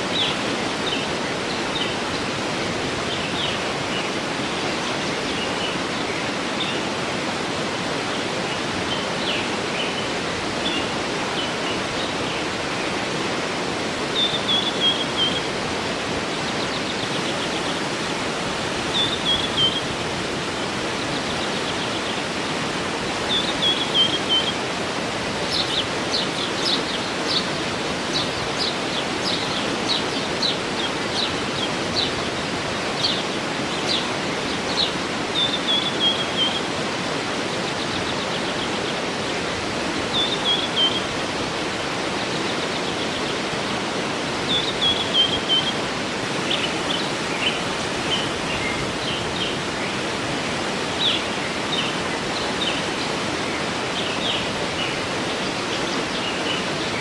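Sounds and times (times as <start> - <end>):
birds singing: 0.0 - 57.0
waterfall running: 0.0 - 57.0.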